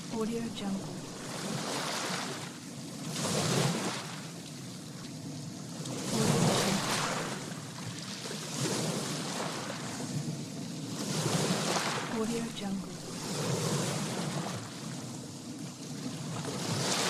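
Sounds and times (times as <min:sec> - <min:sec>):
small waves lapping and splashing: 0:00.0 - 0:17.0.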